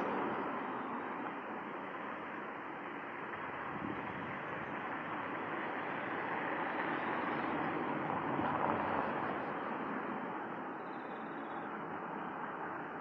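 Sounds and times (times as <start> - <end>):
outdoor town ambience: 0.0 - 13.0.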